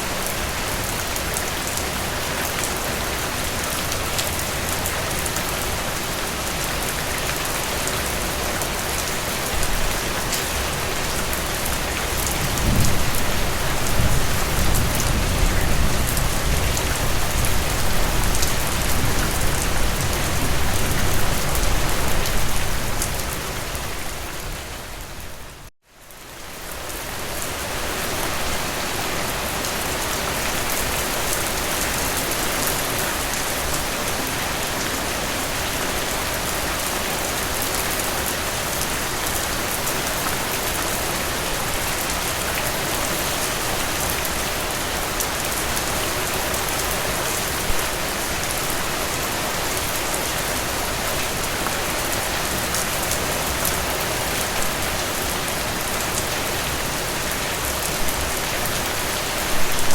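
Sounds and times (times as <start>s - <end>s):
rain falling on forest: 0.0s - 59.9s.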